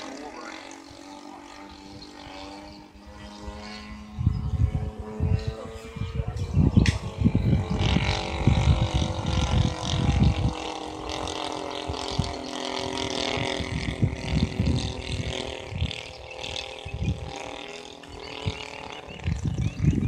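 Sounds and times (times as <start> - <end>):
model plane motor: 0.0 - 20.0
wind buffeting microphone: 0.0 - 20.0.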